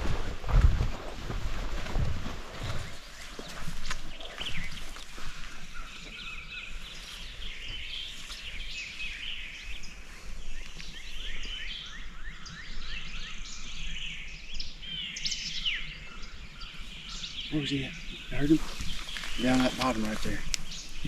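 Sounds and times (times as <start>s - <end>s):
songbirds chirping and whistling: 1.8s - 21.0s.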